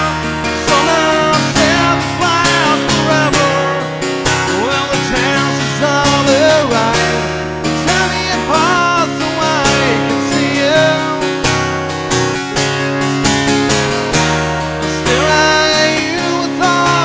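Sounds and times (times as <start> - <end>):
man singing: 0.0 - 11.8, 14.8 - 17.0
strummed acoustic guitar: 0.0 - 17.0.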